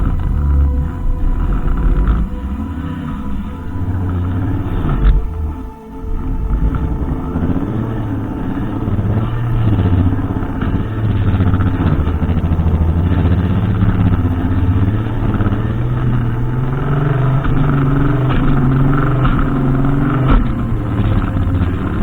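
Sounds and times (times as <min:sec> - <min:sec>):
brushcutter engine droning: 0:00.0 - 0:22.0.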